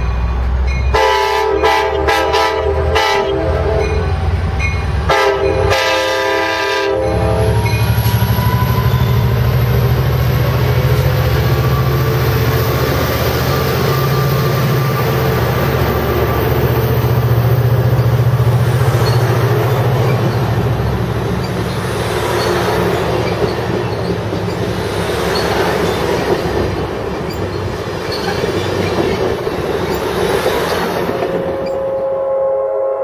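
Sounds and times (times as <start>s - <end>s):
train wheels rumbling on rail: 0.0s - 32.4s.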